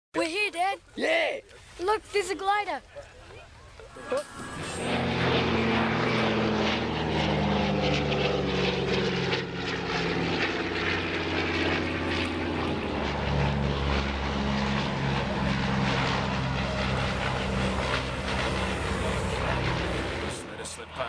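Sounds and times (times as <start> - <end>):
propeller aircraft engine drone: 2.6 - 21.0.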